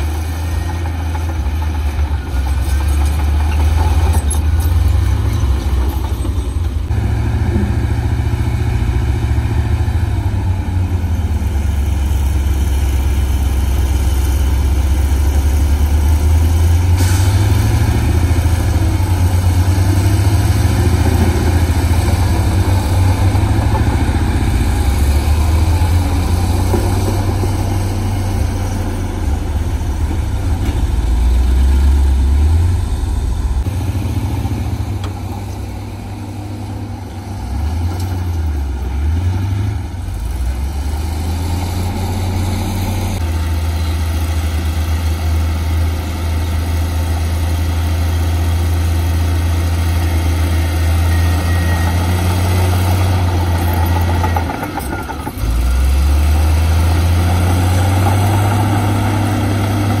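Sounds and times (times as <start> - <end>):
heavy machinery diesel engines: 0.0 - 60.0.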